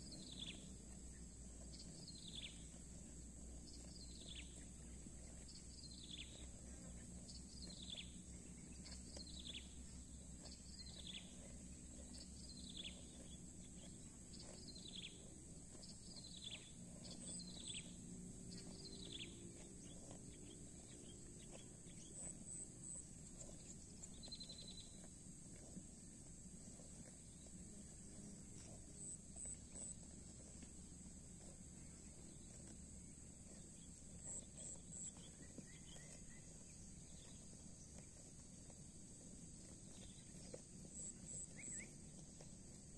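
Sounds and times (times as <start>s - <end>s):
insects buzzing: 0.0s - 42.9s.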